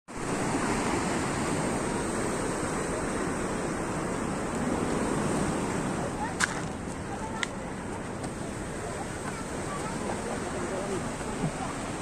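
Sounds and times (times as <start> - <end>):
sea surf washing onto beach: 0.1 - 12.0.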